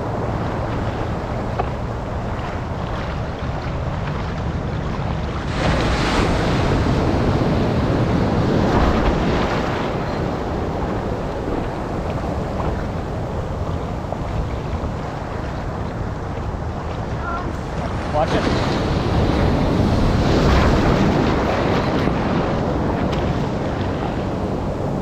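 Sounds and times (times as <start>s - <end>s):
ocean surf: 0.0s - 25.0s
wave breaking: 0.0s - 25.0s
wind buffeting microphone: 0.0s - 25.0s.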